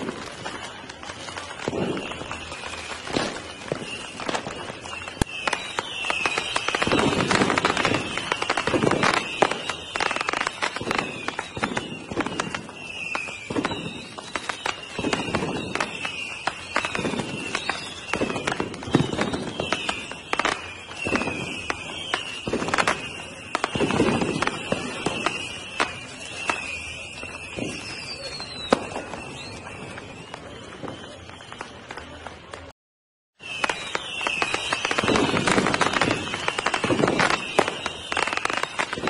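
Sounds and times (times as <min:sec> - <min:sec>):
falling firework whistles: 0:00.0 - 0:32.7, 0:33.4 - 0:39.0
firework bangs and crackles: 0:00.0 - 0:32.7, 0:33.4 - 0:39.0
deep firework booms: 0:01.4 - 0:30.0, 0:34.3 - 0:38.1.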